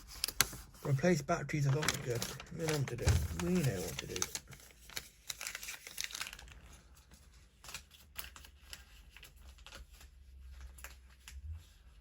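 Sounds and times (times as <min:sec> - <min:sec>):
paper packaging crinkling: 0:00.0 - 0:12.0.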